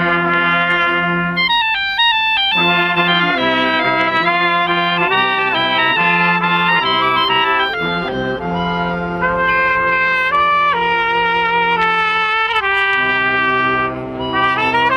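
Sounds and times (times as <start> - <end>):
small wind band playing: 0.0 - 14.9.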